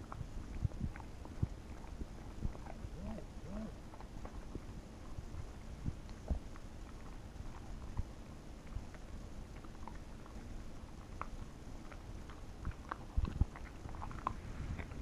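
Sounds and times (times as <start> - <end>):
dog chewing and licking: 0.0 - 15.0.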